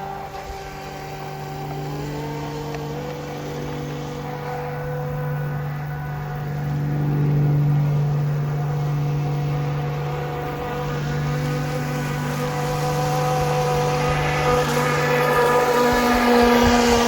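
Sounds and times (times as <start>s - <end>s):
model boat electric motor whining: 0.0s - 17.0s.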